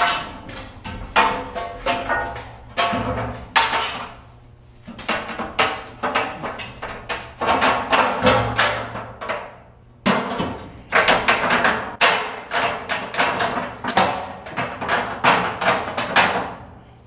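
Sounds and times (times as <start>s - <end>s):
metal cans clanking and knocking: 0.0s - 4.2s, 4.8s - 16.6s.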